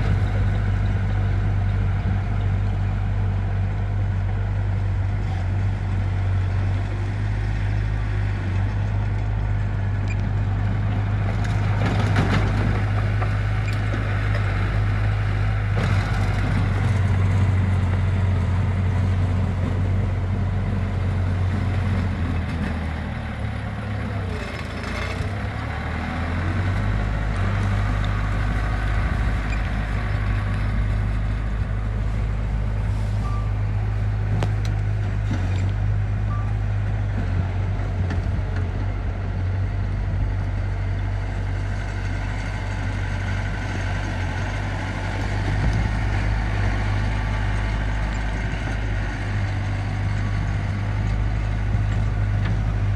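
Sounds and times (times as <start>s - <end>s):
heavy machinery diesel engine running: 0.0s - 52.9s.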